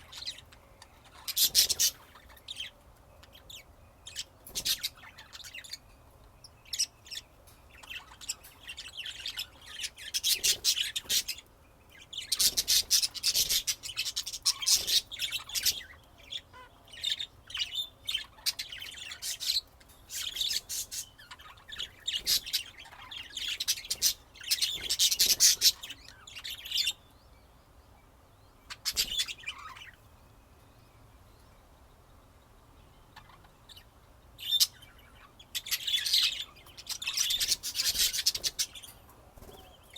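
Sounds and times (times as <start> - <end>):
budgerigars chattering and chirping: 0.0 - 27.0, 28.6 - 30.0, 33.0 - 39.9.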